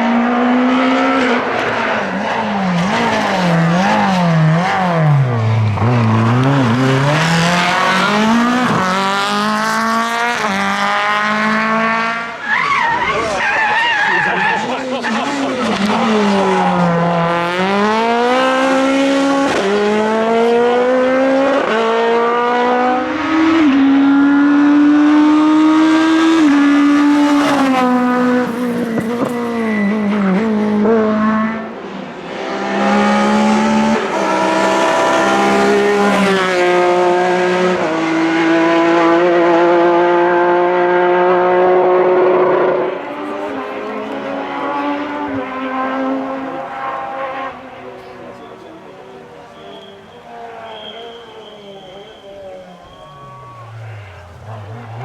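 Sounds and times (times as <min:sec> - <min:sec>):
rally car engines at full throttle: 0:00.0 - 0:55.0.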